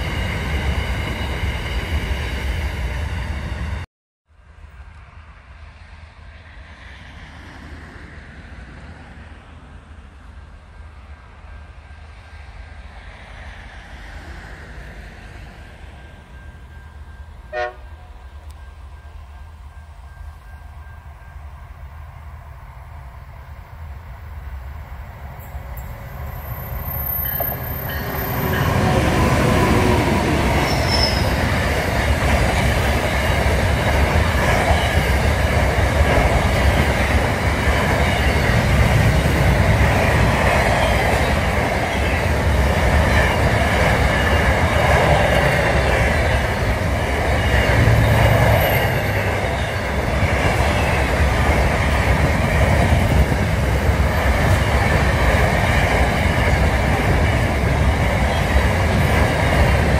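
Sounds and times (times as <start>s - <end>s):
freight train passing: 0.0s - 59.9s
wheels rumbling on rails: 4.4s - 59.9s.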